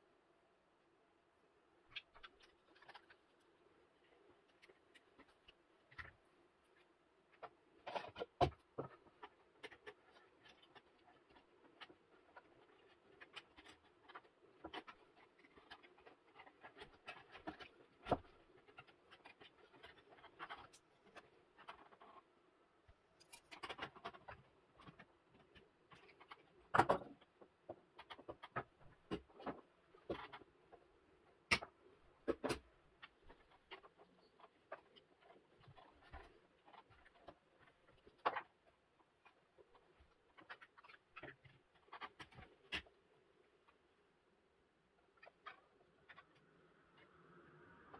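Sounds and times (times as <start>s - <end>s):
cable handling rustling and clicks: 1.9s - 43.8s.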